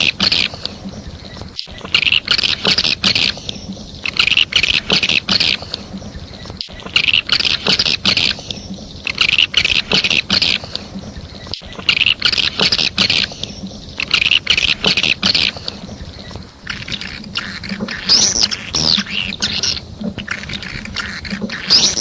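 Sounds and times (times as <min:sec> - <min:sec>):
swiftlets twittering chirps: 0:00.0 - 0:22.0.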